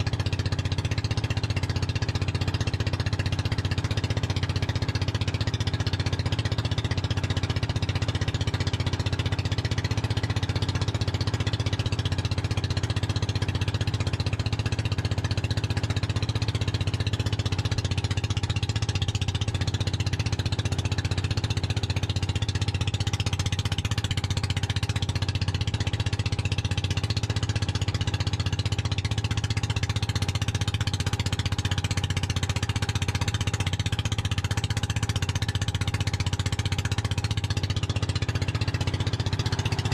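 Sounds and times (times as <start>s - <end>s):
boat engine chugging: 0.0s - 39.9s.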